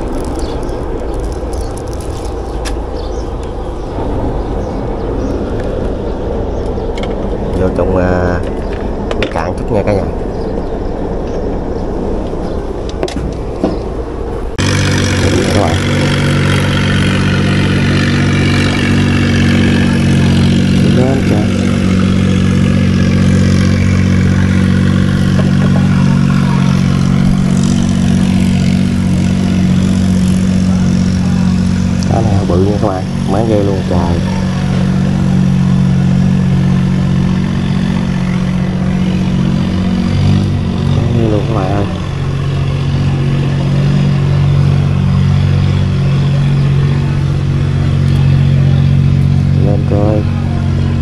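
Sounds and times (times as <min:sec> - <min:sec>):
boat engine idling: 0:00.0 - 0:51.0.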